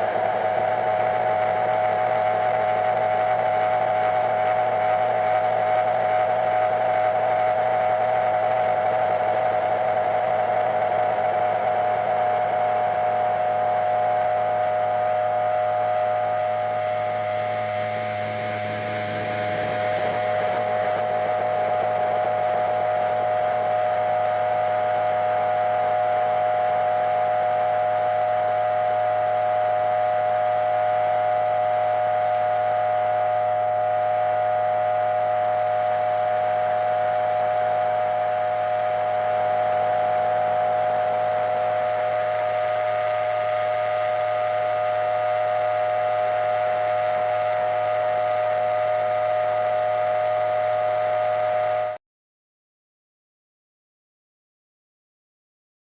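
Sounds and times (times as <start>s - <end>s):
harsh noise drone: 0.0s - 52.0s.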